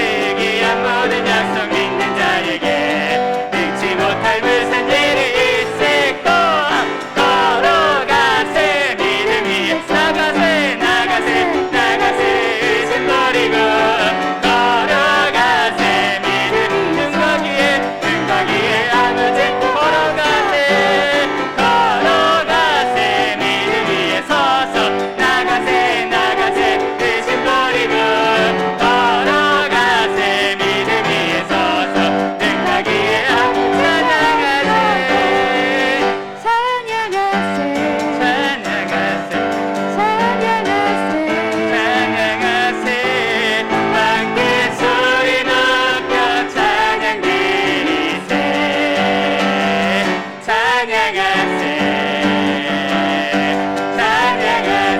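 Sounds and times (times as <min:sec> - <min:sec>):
group singing worship song: 0:00.0 - 0:54.9
piano chords: 0:00.0 - 0:54.9.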